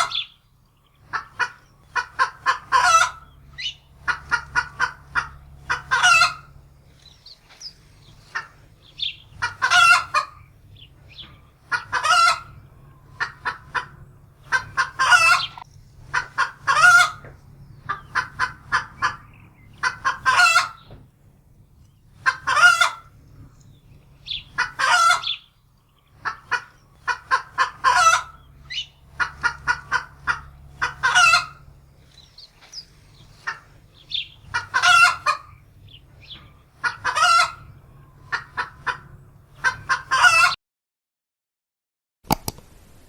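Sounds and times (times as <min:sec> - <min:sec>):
hen cackling: 0:00.0 - 0:00.4, 0:01.0 - 0:21.0, 0:22.0 - 0:40.6.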